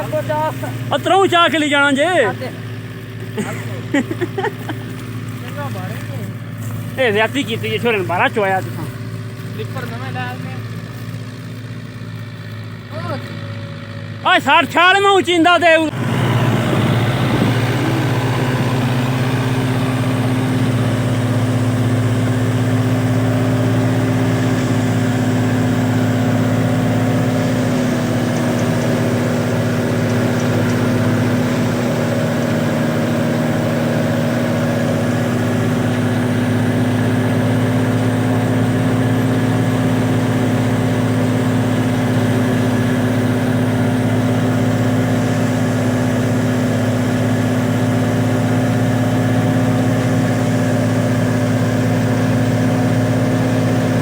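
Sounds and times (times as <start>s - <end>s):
thresher engine humming: 0.0s - 54.0s.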